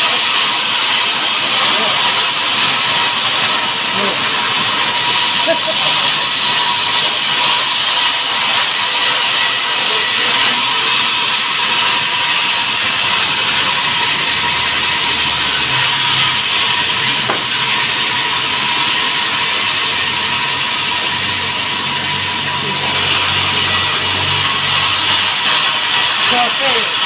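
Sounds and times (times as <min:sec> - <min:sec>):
band saw cutting wood: 0:00.0 - 0:27.0.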